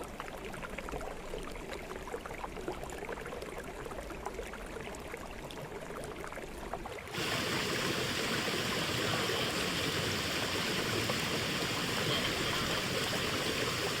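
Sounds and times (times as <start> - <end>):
stream flowing over rocks: 0.2 - 14.0.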